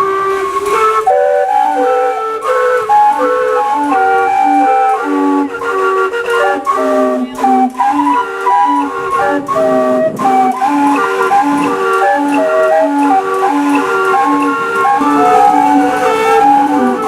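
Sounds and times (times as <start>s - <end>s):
steam calliope playing: 0.0s - 17.0s.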